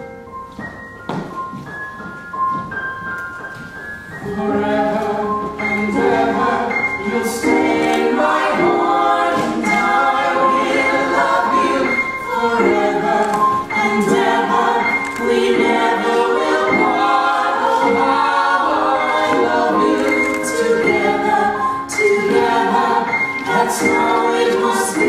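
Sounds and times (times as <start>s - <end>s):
voices singing in harmony: 4.2s - 25.0s.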